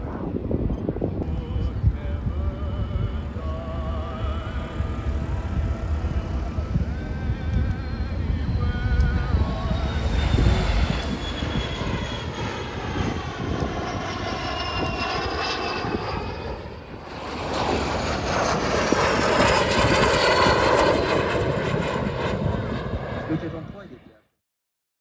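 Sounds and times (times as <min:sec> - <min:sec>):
jet engine whine flying past: 0:00.2 - 0:24.2.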